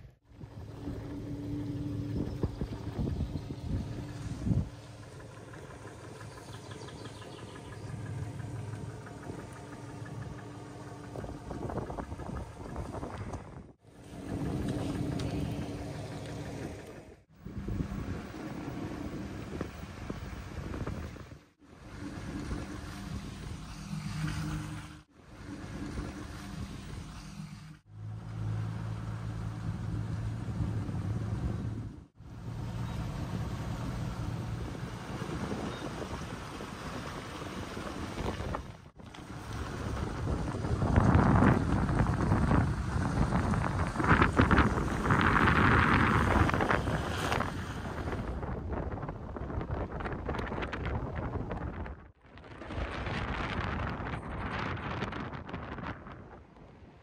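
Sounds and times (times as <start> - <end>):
vehicle engines idling: 0.0 - 51.6.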